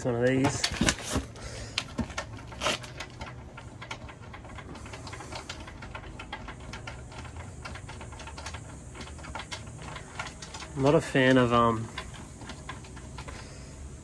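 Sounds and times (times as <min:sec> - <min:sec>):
tools clicking and tapping: 0:00.2 - 0:13.5.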